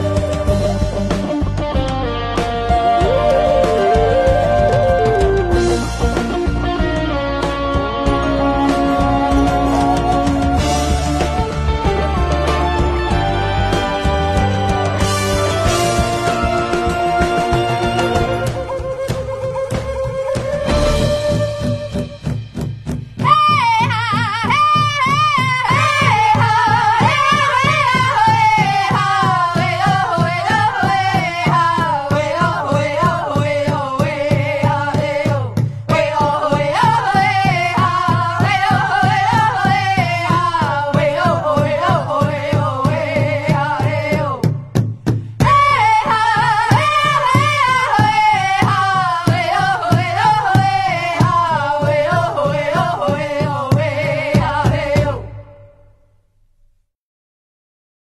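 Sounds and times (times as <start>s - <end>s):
steady drumbeat: 0.0s - 55.7s.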